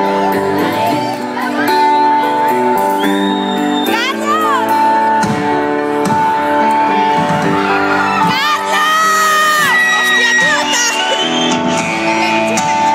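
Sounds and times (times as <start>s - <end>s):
pop band music: 0.0s - 12.9s.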